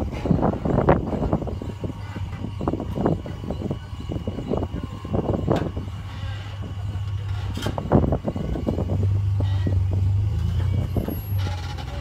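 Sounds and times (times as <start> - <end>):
off-road vehicle engine drone: 0.0 - 12.0.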